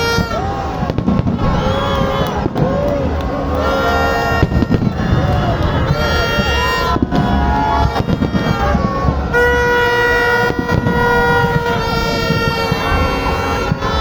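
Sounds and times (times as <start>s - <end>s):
horn long note: 0.0s - 14.0s
loud crowd noise and voices: 0.0s - 14.0s.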